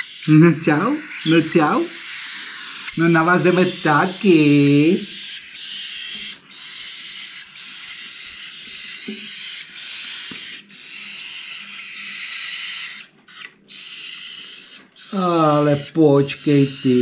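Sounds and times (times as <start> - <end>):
cockatiels hissing raspily: 0.0 - 17.0.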